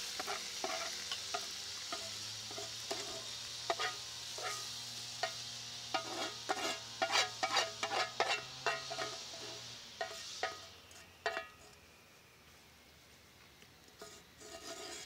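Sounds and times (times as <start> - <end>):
metal utensil scraping pan: 0.1 - 11.7, 14.0 - 15.0.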